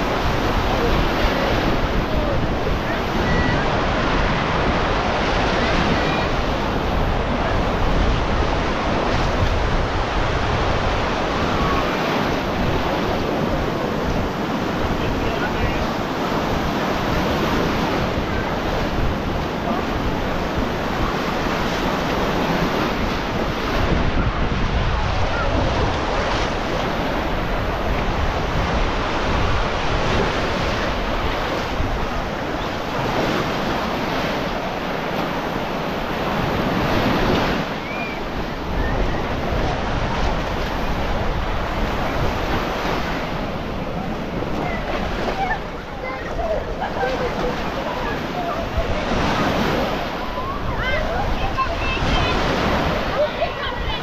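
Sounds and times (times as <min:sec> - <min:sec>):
waves breaking on sandy beach: 0:00.0 - 0:54.0
wind buffeting microphone: 0:00.0 - 0:54.0.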